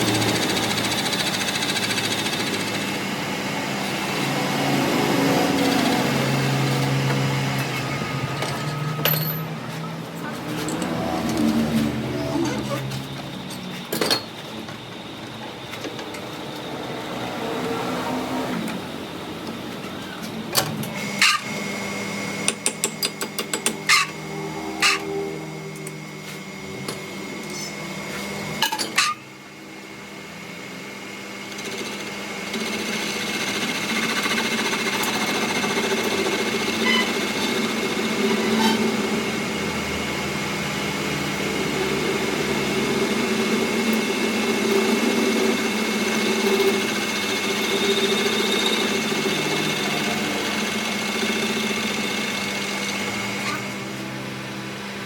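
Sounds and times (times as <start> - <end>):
workshop machine humming: 0.0 - 55.0.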